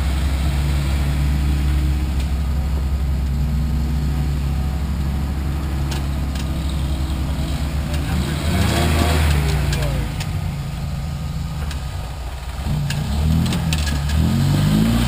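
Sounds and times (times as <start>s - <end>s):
vehicle engine at low revs: 0.0s - 15.0s.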